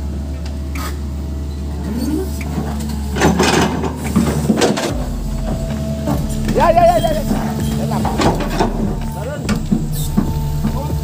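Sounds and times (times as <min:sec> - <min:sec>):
excavator diesel engine drone: 0:00.0 - 0:11.0
clattering and scraping: 0:02.0 - 0:11.0.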